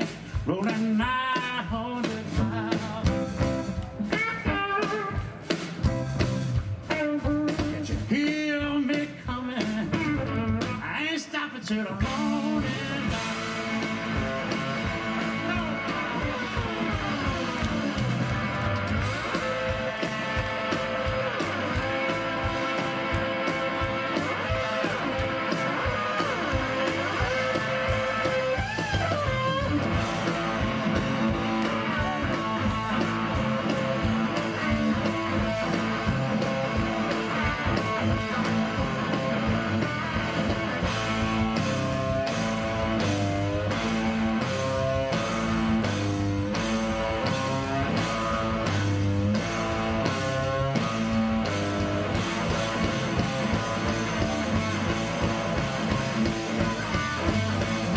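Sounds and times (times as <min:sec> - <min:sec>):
bass guitar: 0:00.0 - 0:57.9
drums: 0:00.0 - 0:57.9
electric guitar lead with bent notes: 0:01.8 - 0:10.9, 0:12.0 - 0:57.9.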